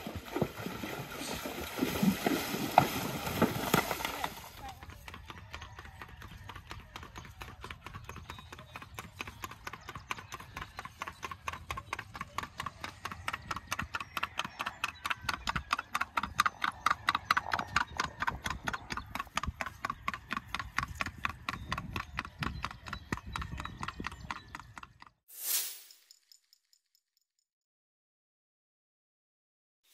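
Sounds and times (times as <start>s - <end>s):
horse hooves clip-clop on pavement: 0.0s - 25.2s.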